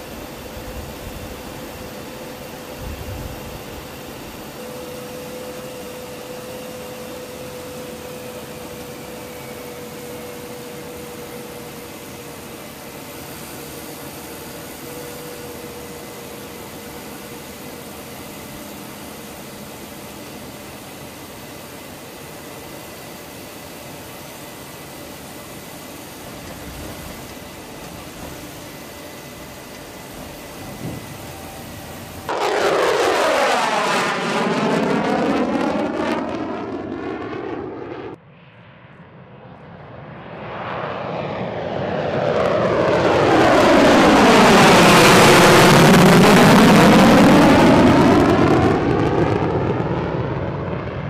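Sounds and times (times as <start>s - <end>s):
aircraft engine noise: 0.0s - 51.0s
faint engine whine: 0.0s - 51.0s.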